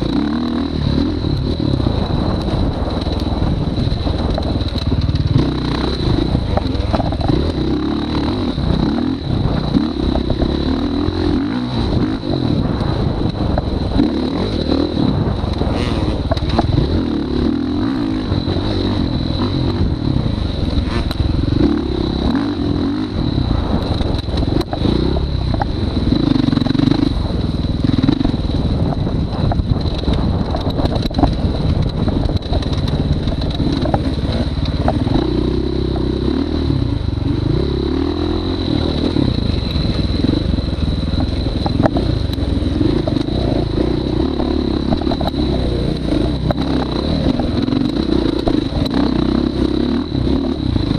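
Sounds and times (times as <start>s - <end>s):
bike rattling: 0.0s - 50.9s
dirt bike engine revving: 0.0s - 50.9s.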